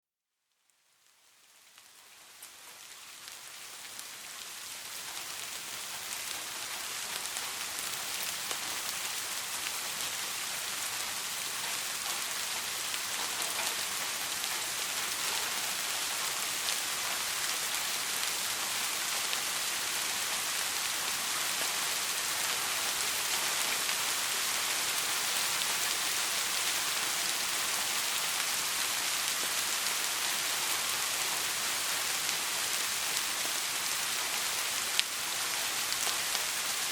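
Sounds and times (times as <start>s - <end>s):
rain pattering on a surface: 0.5s - 36.9s.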